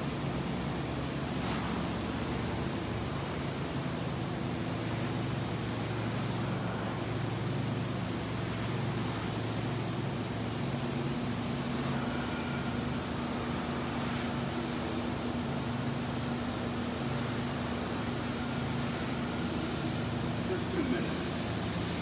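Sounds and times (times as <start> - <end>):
carpet cleaner suction and spray: 0.0 - 22.0.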